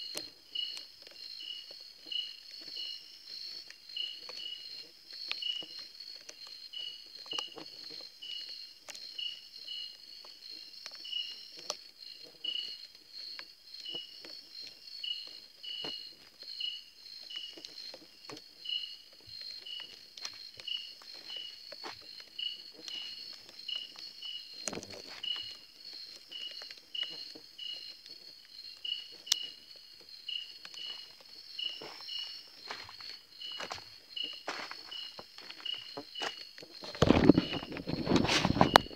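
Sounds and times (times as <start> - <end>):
footsteps and rustles on ground: 0.0 - 38.9
insects buzzing and chirping: 0.0 - 38.9.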